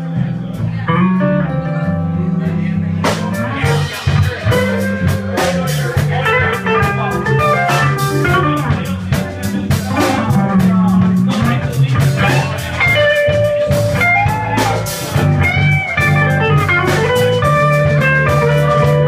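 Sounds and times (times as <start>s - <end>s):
blues band playing: 0.0s - 19.0s
drum kit and cymbals: 2.5s - 19.0s.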